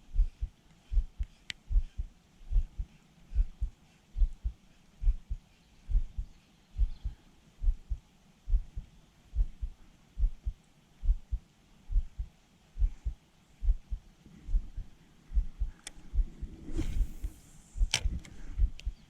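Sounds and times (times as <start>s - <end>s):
dull low thumps: 0.0s - 19.0s.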